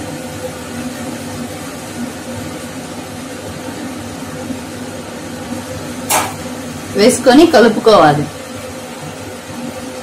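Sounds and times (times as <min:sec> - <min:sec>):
appliance humming: 0:00.0 - 0:10.0.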